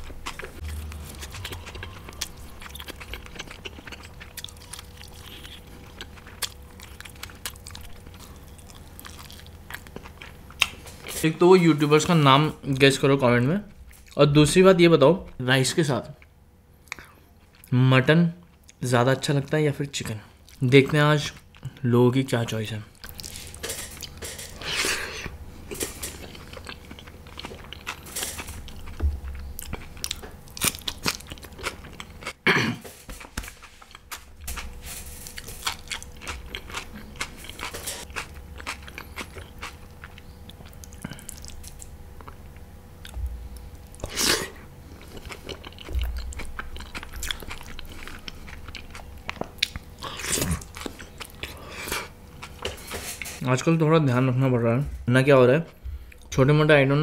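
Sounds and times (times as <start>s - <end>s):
man chewing and crunching food: 0.0s - 14.2s, 16.2s - 17.7s, 18.4s - 21.8s, 22.9s - 53.7s, 55.7s - 56.4s.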